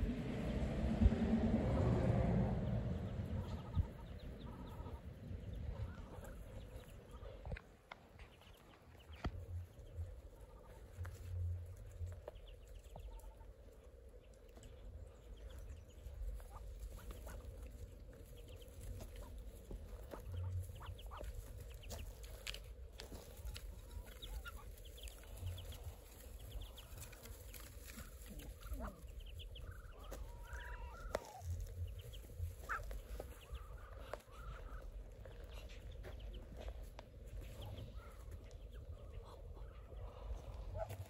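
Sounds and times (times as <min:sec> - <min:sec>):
low rumbles on microphone: 0:00.0 - 0:41.0
ducklings peeping: 0:02.4 - 0:41.0.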